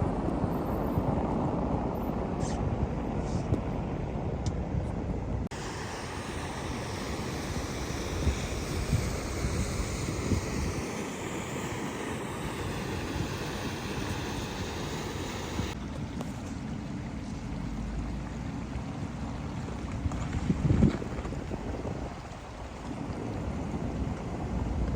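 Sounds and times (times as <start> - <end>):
wind noise on microphone: 0.0 - 16.2, 19.8 - 24.9.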